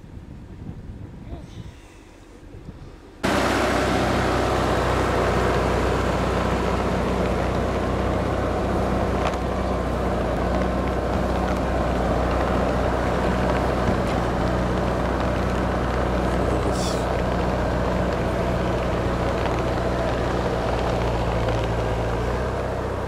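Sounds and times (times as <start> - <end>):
dozer engine running under load: 3.2 - 23.0.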